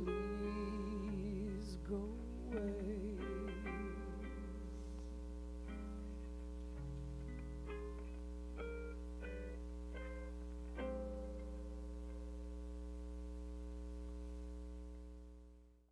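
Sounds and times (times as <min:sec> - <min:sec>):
guitar plucked notes and chords: 0:00.0 - 0:13.0
steady low hum: 0:00.0 - 0:15.9.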